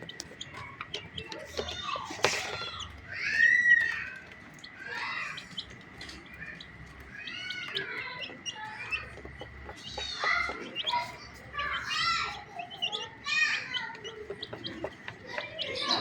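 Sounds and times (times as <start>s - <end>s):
baby chicks peeping: 0.0s - 16.0s.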